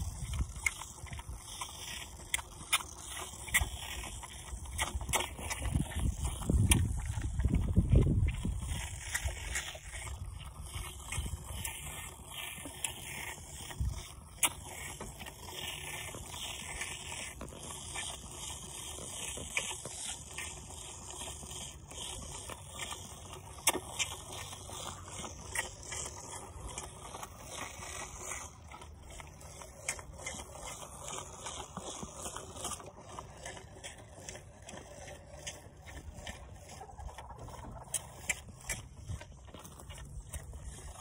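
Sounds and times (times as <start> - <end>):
calf slurping from a bottle: 0.0 - 41.0.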